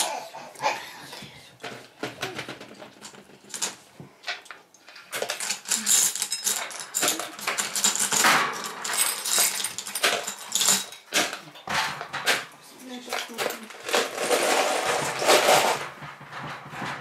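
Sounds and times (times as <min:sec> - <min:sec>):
shells and pebbles clattering in bottle: 0:01.5 - 0:17.0.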